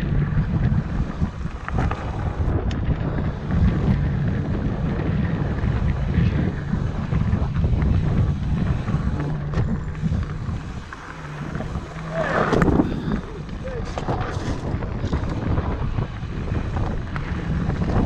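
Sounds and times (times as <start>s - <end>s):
bike clicks and rattles: 0.0s - 18.0s
mountain bike rolling on dirt: 0.0s - 18.0s
wind buffeting microphone: 0.0s - 18.0s.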